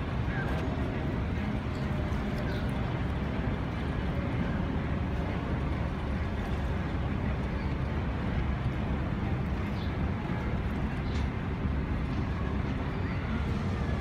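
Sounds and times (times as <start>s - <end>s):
boat engine rumble: 0.0s - 14.0s.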